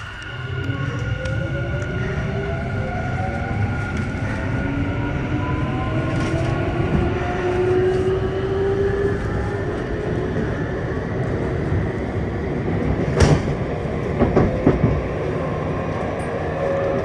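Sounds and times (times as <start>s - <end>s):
low train running rumble: 0.0s - 17.0s
train inverter and motors whining: 0.0s - 17.0s.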